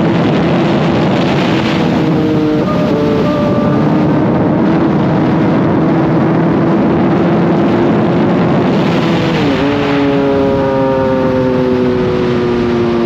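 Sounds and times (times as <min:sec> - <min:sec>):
motorcycle engine running at speed: 0:00.0 - 0:13.0
wind rush: 0:00.0 - 0:13.0.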